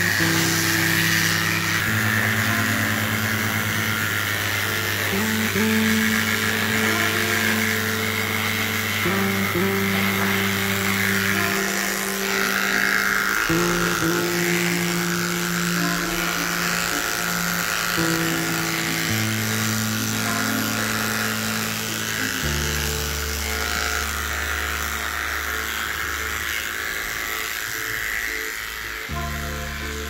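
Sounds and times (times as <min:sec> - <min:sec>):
electric clippers buzzing: 0:00.0 - 0:30.0
music with long low notes: 0:00.0 - 0:30.0.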